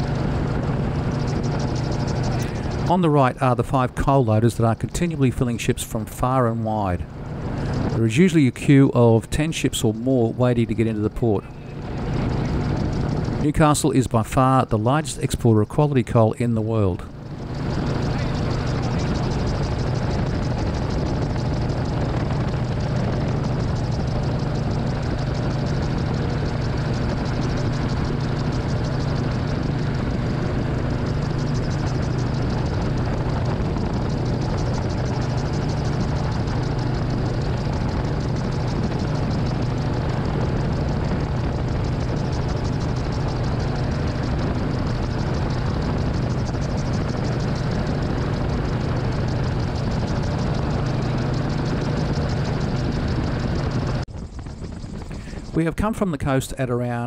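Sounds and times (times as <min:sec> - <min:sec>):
gyroplane engine and rotor droning: 0:00.0 - 0:57.0.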